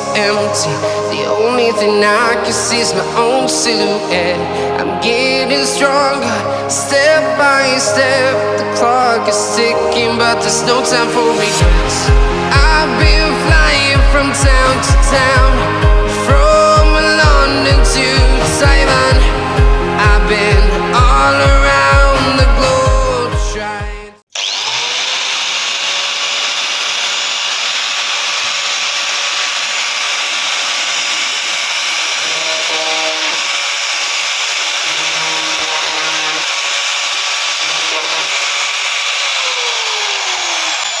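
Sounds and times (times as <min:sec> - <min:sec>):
angle grinder whine: 0:00.0 - 0:23.7, 0:24.3 - 0:41.0.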